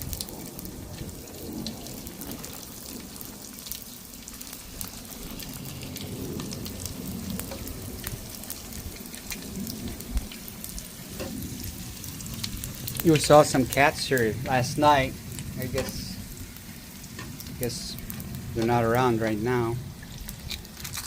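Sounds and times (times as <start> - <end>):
oil sizzling in frying pan: 0.0 - 21.0.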